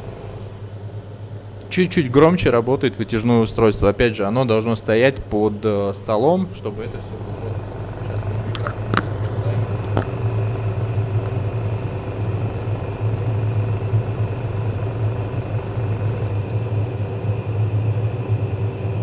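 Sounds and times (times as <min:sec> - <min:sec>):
mechanical hum with low drone: 0:00.0 - 0:19.0.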